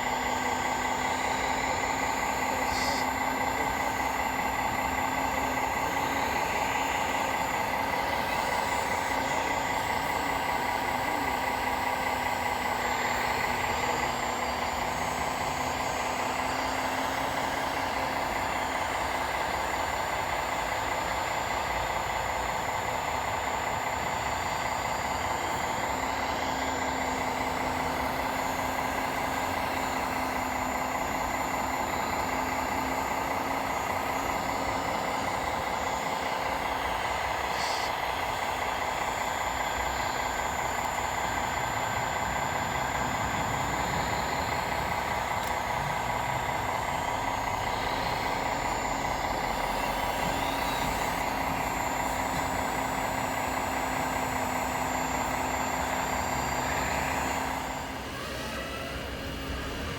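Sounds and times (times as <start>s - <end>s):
model trucks whining and humming: 0.0s - 59.9s.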